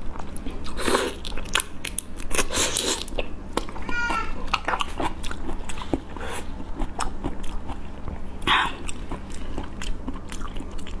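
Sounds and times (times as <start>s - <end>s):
chewing mouth sounds: 0.1s - 11.0s.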